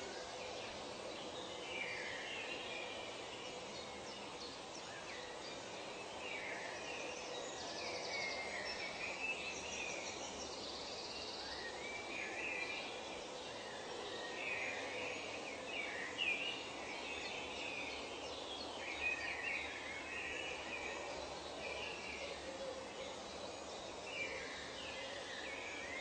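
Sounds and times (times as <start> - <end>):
birds calling and singing: 0.0 - 26.0
steady background hiss: 0.0 - 26.0.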